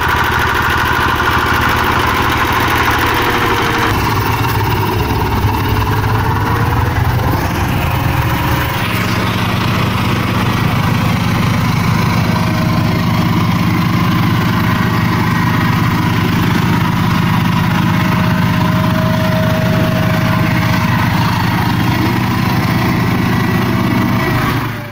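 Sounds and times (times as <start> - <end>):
tiller diesel engine running: 0.0 - 24.9.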